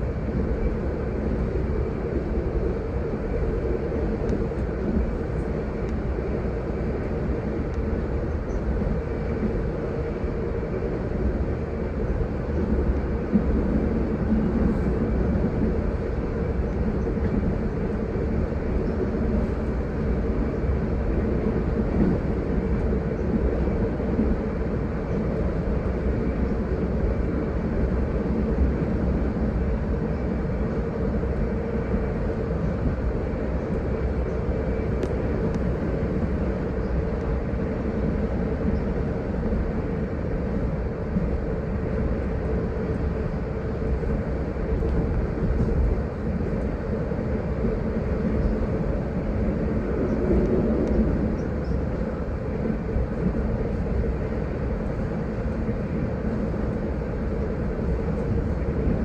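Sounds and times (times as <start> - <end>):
steady hum: 0.0 - 59.0
train wheels on rails: 0.0 - 59.0.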